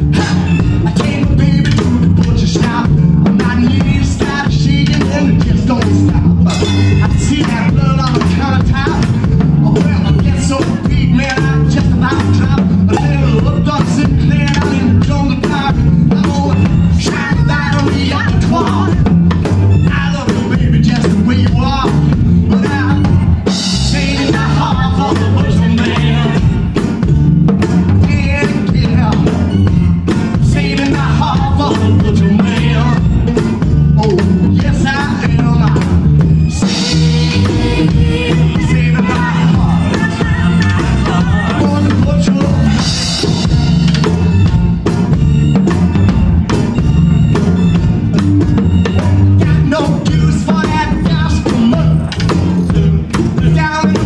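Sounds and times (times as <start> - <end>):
drum kit played with sticks: 0.0 - 54.0
live band playing: 0.0 - 54.0.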